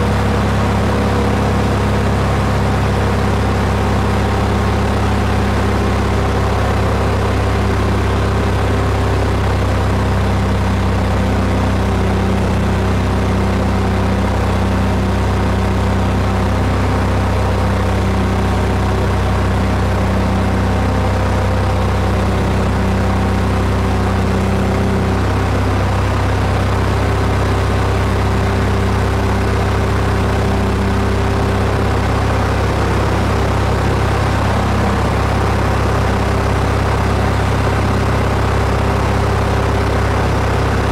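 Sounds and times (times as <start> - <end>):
aircraft engine drone in cabin: 0.0 - 40.9.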